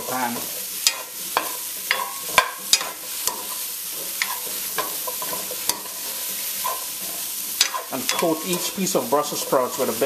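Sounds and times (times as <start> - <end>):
vegetables sizzling in a skillet: 0.0 - 10.0
spatula scraping a pan: 0.2 - 10.0.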